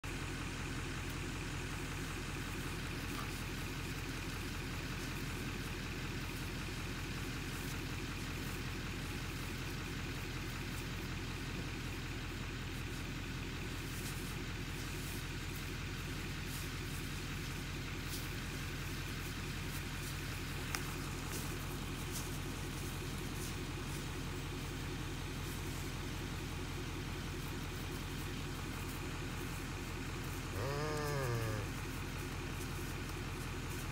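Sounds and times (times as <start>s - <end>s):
low engine hum: 0.0s - 33.9s.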